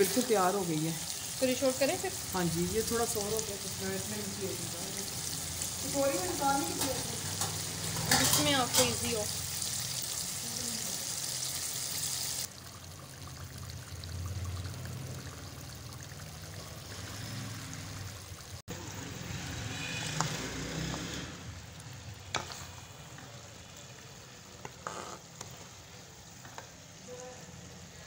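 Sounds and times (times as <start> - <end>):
curry sizzling in pot: 0.0 - 28.0.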